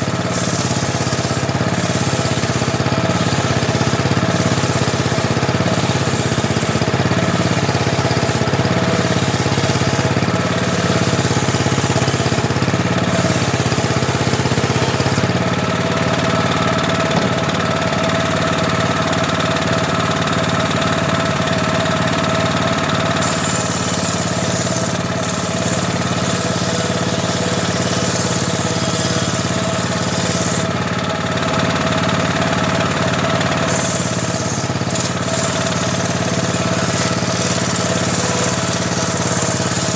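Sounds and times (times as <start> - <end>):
saw blade cutting wood: 0.0 - 39.9
table saw motor droning: 0.0 - 39.9.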